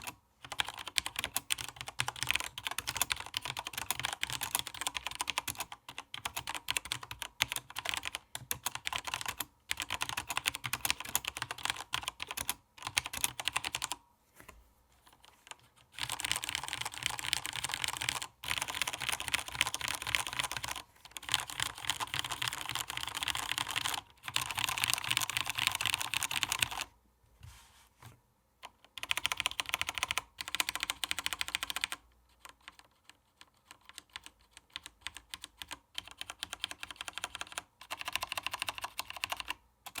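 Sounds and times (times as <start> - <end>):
mechanical keyboard typing: 0.0 - 14.0, 15.5 - 26.9, 28.6 - 40.0.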